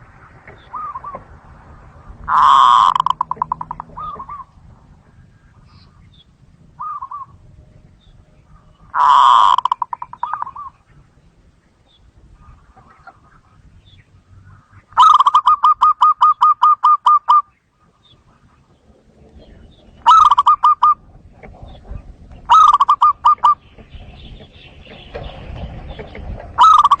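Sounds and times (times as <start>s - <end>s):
dove staccato cooing: 0.0s - 11.2s, 12.3s - 27.0s.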